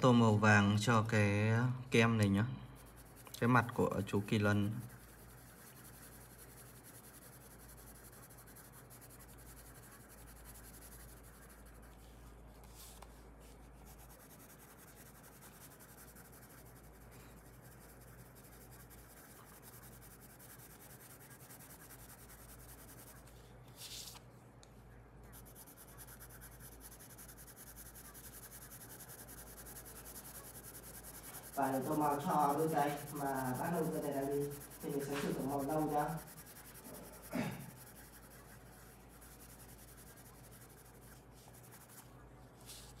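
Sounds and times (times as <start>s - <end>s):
pencil scratching on paper: 2.7s - 24.2s, 25.3s - 43.0s.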